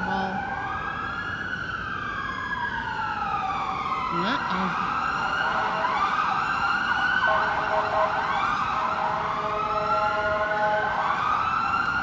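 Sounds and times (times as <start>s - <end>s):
siren wailing: 0.0s - 12.0s
steady siren tones: 0.0s - 12.0s.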